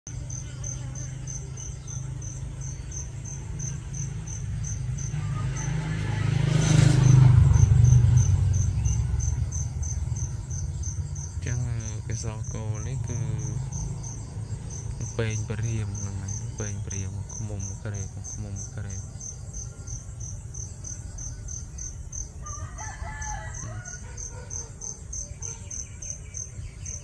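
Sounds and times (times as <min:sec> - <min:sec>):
insect chirping: 0:00.1 - 0:27.0.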